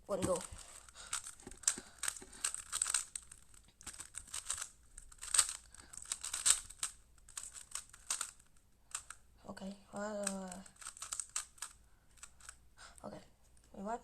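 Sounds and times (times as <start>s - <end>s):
puzzle cube plastic clicks: 0.1s - 9.3s, 9.9s - 13.0s.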